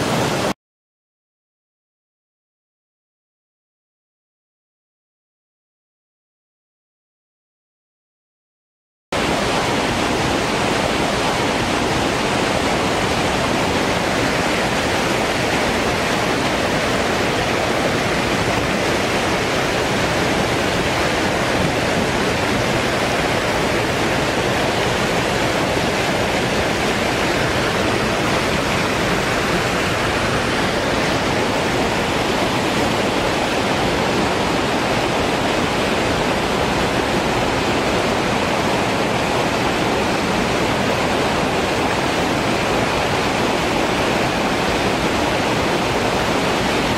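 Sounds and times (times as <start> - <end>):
waterfall rushing: 0.0 - 0.6, 9.2 - 46.9.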